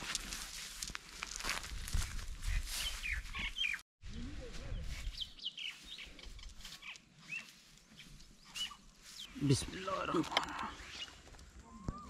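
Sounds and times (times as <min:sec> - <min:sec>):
small birds chirping: 0:02.0 - 0:12.0.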